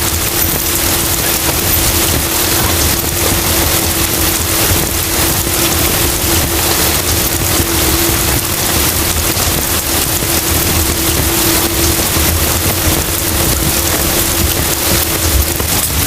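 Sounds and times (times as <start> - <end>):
heavy rain: 0.0 - 16.0
low hum: 0.0 - 16.0.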